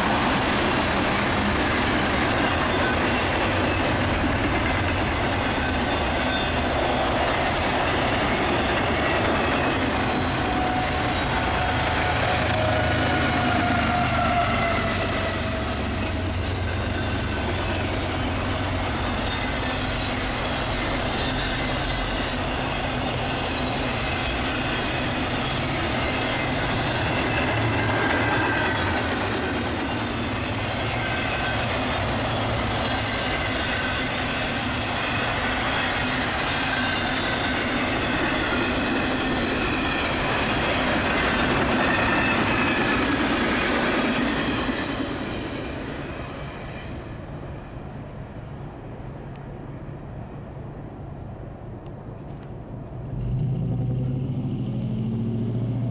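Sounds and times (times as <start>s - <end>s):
train wheel clatter: 0.0s - 46.6s
diesel locomotive engine: 0.0s - 55.9s.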